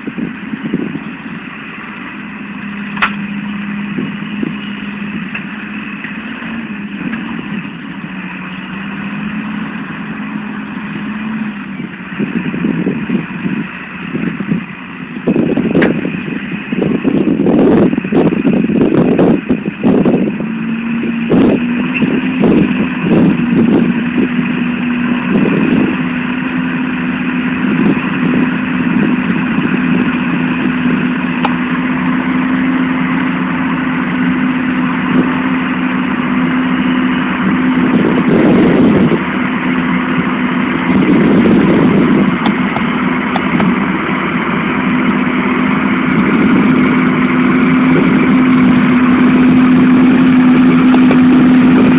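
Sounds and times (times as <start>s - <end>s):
tractor engine droning: 0.0s - 51.9s.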